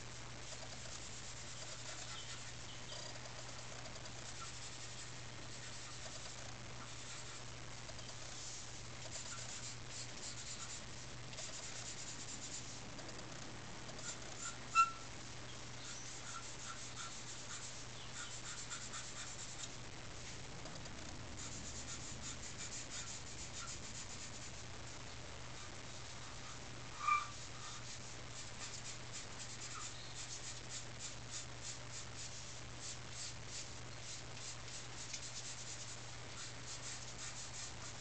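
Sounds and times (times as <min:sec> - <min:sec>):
pencil scratching on paper: 0:00.4 - 0:07.5, 0:08.1 - 0:12.8, 0:13.9 - 0:15.0, 0:15.8 - 0:19.8, 0:20.9 - 0:24.6, 0:25.6 - 0:38.0.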